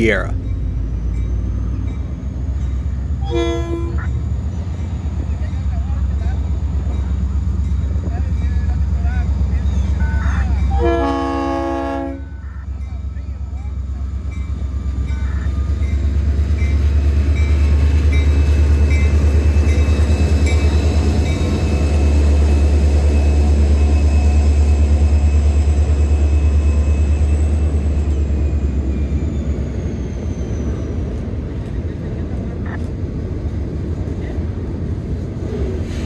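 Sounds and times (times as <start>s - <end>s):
diesel locomotive engine throbbing: 0.0s - 36.0s.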